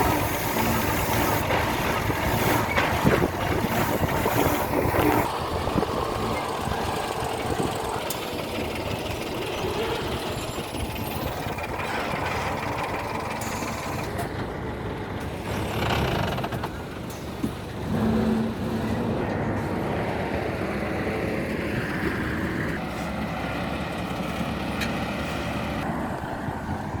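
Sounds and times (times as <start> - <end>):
diesel construction machinery running: 0.0 - 27.0.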